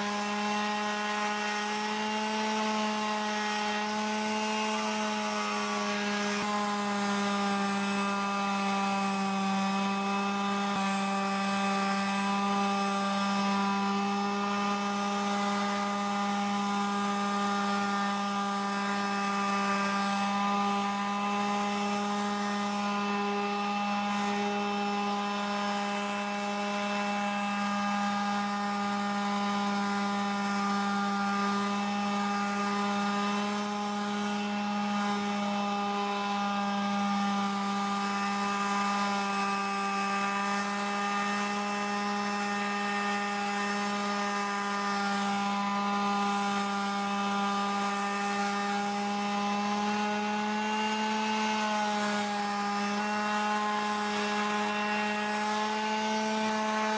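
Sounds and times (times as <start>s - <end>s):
orbital sander sanding wood: 0.0s - 56.9s.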